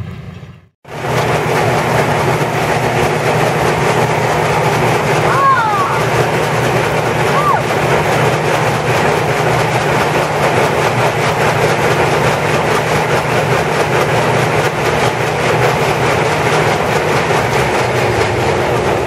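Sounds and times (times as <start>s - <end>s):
farm machinery humming and clattering: 0.0s - 19.0s.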